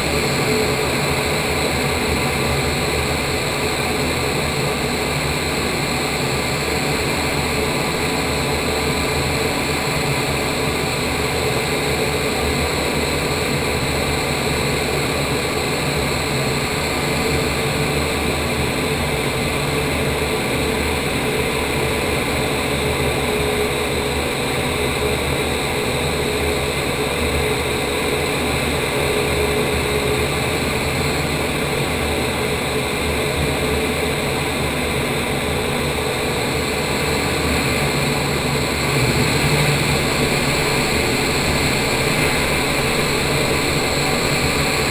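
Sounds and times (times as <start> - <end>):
loud rush of air from fans: 0.0 - 44.9
steady hum: 0.0 - 44.9.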